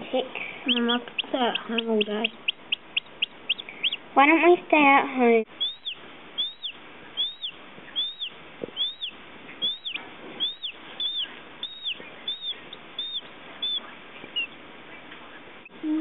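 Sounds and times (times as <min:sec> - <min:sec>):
chick peeping: 0:00.4 - 0:04.4, 0:05.5 - 0:16.0.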